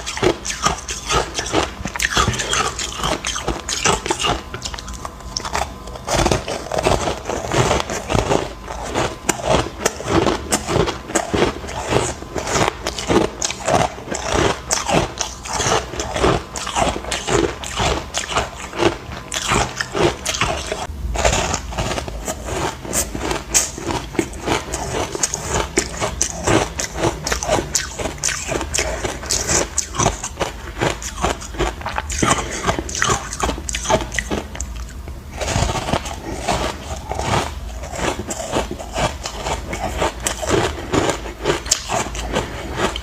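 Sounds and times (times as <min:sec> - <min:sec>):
ice crunching being chewed: 0:00.0 - 0:43.0.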